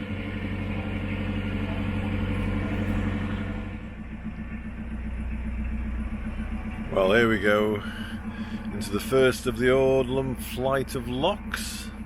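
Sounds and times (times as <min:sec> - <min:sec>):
diesel boat engine running: 0:00.0 - 0:12.0.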